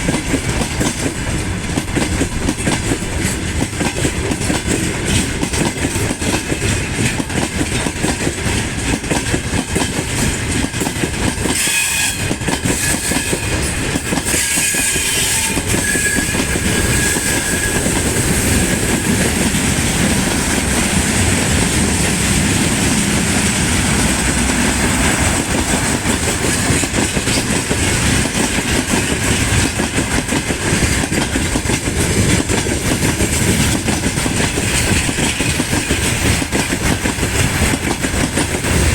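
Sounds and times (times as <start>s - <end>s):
train wheels clattering over rail joints: 0.0s - 38.9s.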